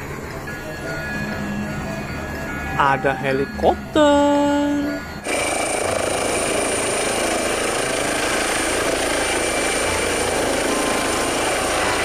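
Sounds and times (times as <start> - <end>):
helicopter rotor whirring: 0.0 - 12.0.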